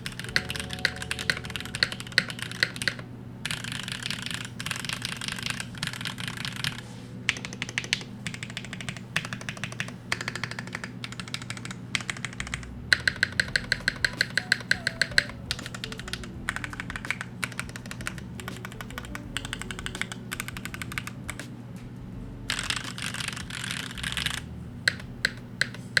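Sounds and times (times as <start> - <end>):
mechanical keyboard key clacks: 0.0 - 21.4.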